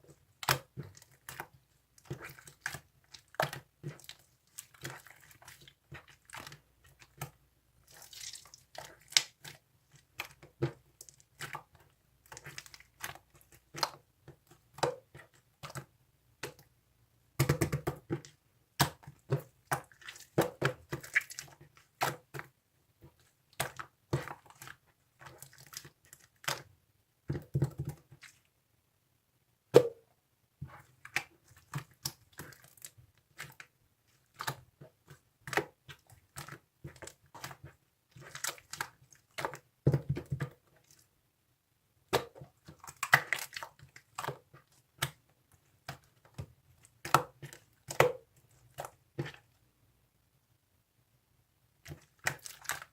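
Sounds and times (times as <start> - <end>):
slime squishing by hand: 0.0 - 28.6, 29.7 - 41.2, 42.0 - 49.6, 51.8 - 52.9.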